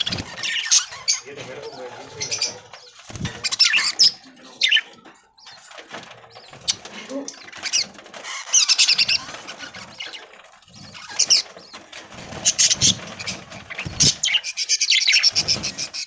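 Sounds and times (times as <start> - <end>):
budgerigars chirping: 0.0 - 5.6, 6.3 - 16.0.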